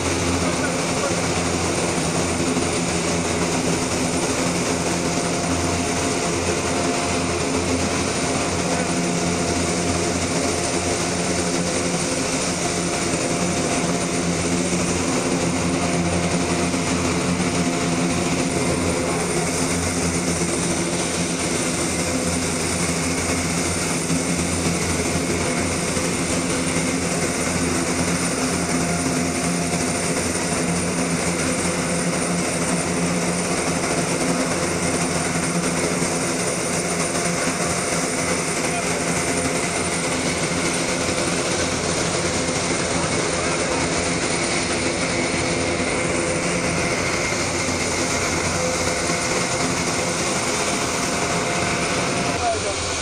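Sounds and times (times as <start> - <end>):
plane engines droning: 0.0 - 53.0.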